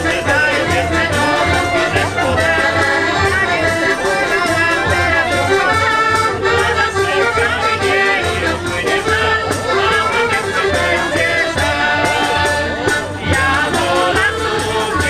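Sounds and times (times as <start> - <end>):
accordion: 0.0 - 15.0
double bass: 0.0 - 15.0
violin: 0.0 - 15.0.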